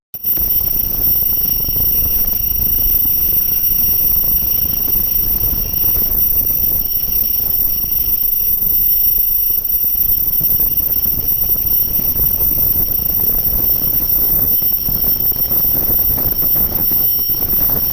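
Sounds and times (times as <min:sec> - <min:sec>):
machine high whine and rumble: 0:00.2 - 0:17.9.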